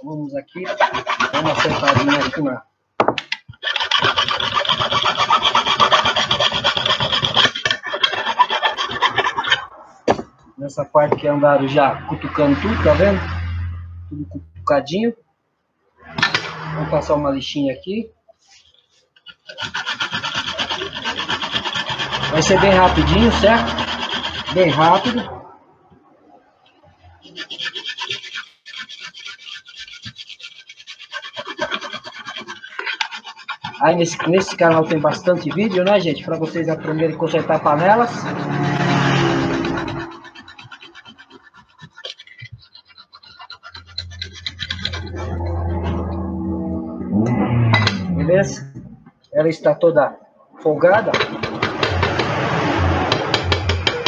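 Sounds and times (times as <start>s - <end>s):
metal file scraping metal rim: 0.4s - 2.6s, 3.3s - 9.8s, 11.2s - 13.8s, 16.0s - 17.2s, 18.5s - 25.4s, 27.2s - 48.2s, 50.9s - 54.0s.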